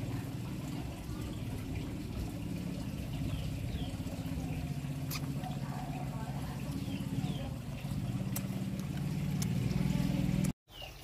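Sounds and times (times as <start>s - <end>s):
pulsing motor hum: 0.0s - 10.6s.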